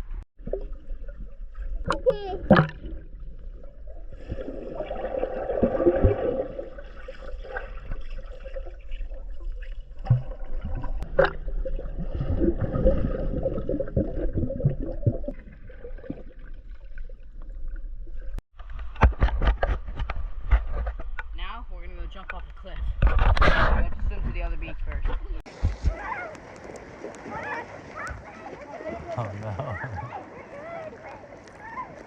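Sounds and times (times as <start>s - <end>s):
water sloshing and gurgling: 0.0s - 32.0s.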